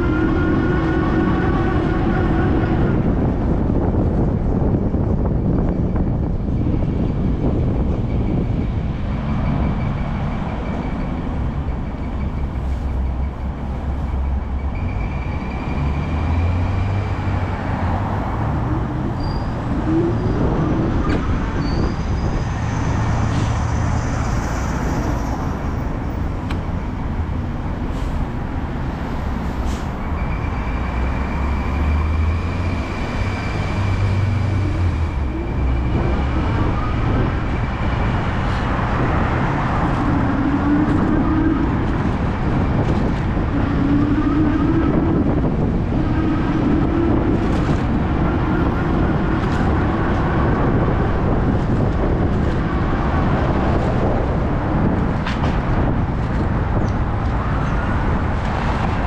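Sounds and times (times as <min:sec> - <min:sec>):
tyres on wet road: 0:00.0 - 0:59.0
wind rumble: 0:00.0 - 0:59.0.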